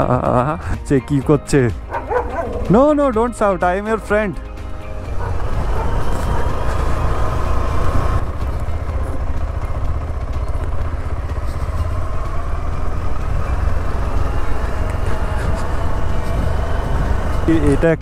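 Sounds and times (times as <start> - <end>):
motorcycle engine rumble: 1.6 - 18.0.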